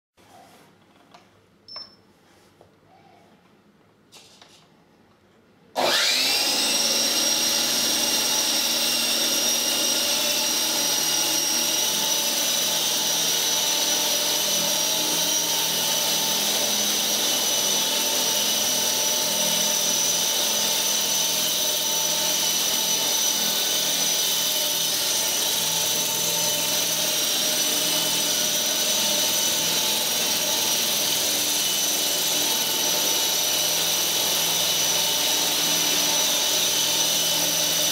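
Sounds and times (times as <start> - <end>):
rc helicopter motor whine: 5.8 - 37.9.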